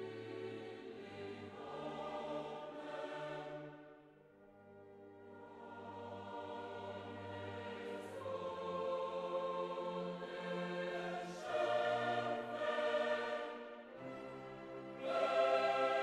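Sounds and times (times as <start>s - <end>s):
choir singing slow chords: 0.0s - 16.0s.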